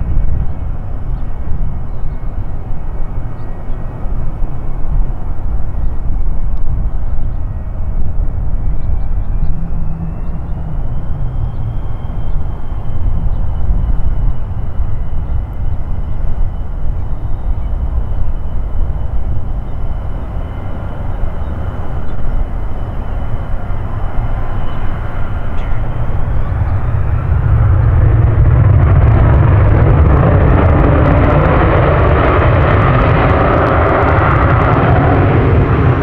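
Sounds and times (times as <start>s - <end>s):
jet engine roar: 0.0s - 36.0s.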